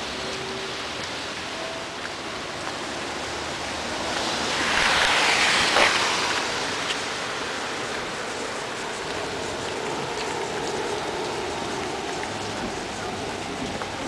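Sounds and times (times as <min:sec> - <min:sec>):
heavy rain pouring on street: 0:00.0 - 0:14.0.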